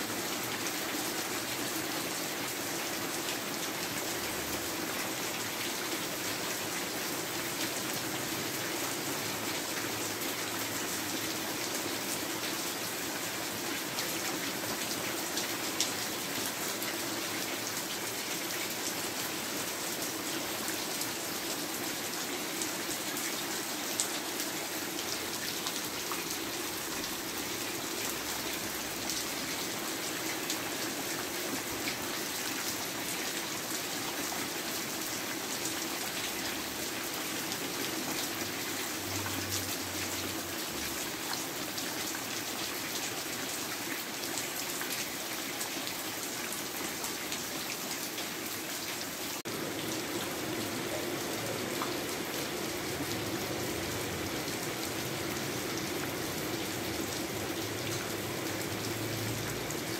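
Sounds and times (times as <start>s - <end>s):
rain on tiled roofs: 0.0s - 59.9s
water running off eaves: 0.0s - 59.9s.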